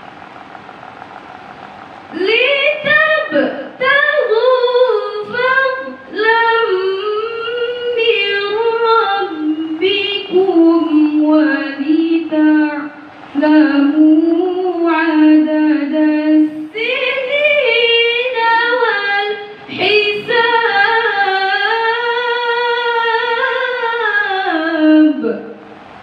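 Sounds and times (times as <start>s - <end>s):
woman reciting melodically: 2.1s - 25.7s.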